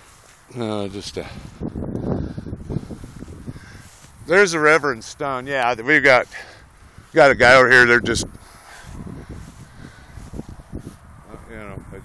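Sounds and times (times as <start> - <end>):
footsteps through dry grass: 0.0 - 12.0.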